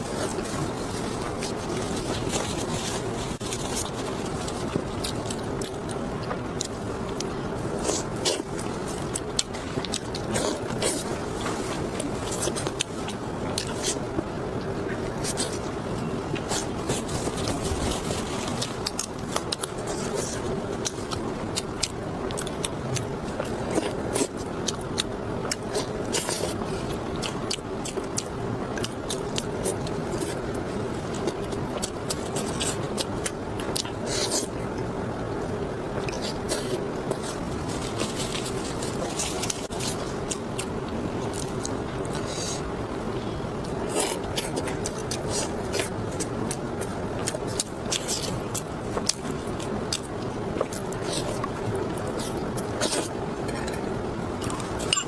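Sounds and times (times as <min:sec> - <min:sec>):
chewing and mouth sounds: 0:00.0 - 0:35.0, 0:35.8 - 0:55.0
faint hum: 0:00.0 - 0:55.0.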